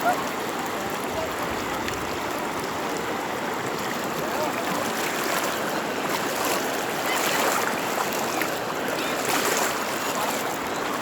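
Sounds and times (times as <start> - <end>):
floodwater rushing and splashing: 0.0 - 11.0.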